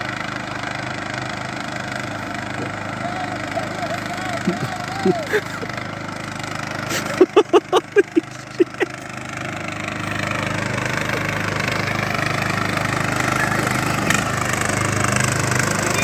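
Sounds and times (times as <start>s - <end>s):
riding lawnmower engine running: 0.0s - 16.0s.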